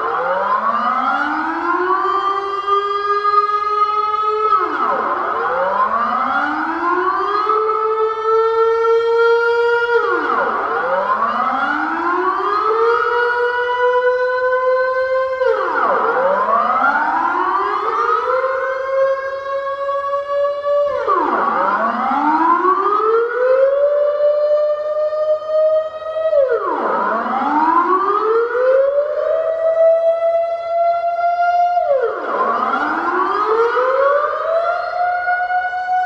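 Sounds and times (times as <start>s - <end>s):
air-raid siren wailing: 0.0s - 36.0s.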